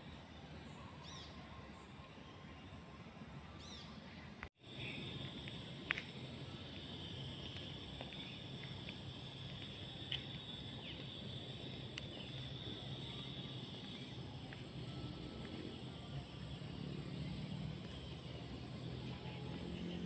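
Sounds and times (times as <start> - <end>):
high insect drone: 0.0 - 20.0
low steady hum: 0.0 - 20.0.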